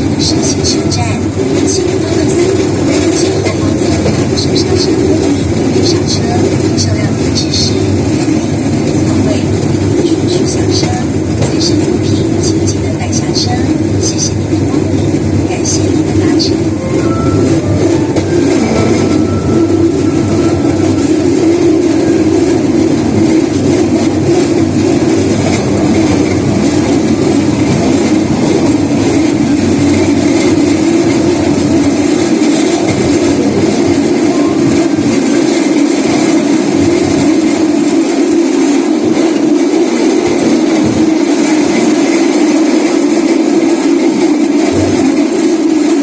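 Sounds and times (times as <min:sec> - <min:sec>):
rail vehicle wheels rumbling: 0:00.0 - 0:46.0.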